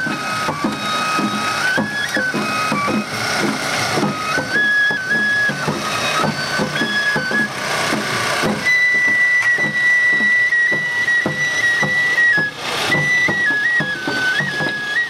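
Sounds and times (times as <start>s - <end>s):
bamboo flute melody: 0.0s - 15.0s
taiko drum beat: 0.0s - 15.0s.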